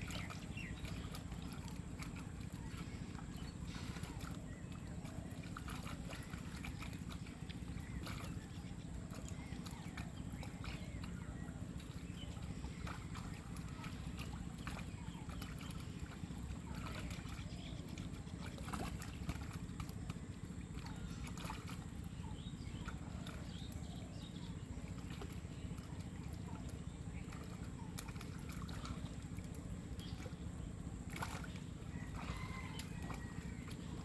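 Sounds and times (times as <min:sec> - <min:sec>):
pond water sloshing: 0:00.0 - 0:34.0.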